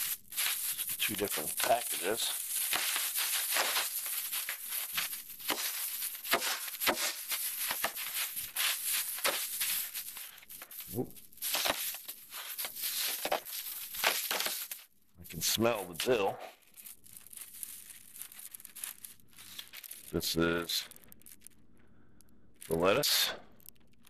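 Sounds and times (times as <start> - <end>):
foil and plastic bags crinkling: 0.0 - 24.0.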